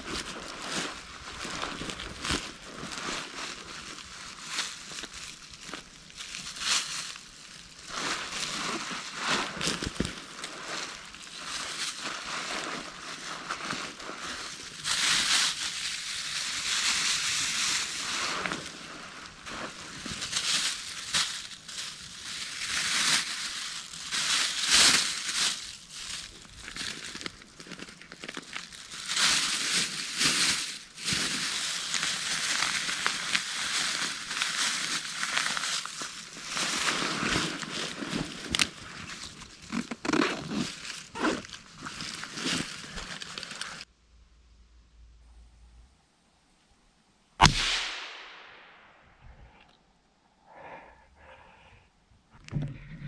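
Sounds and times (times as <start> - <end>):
plastic bag crinkling: 0.0 - 43.9.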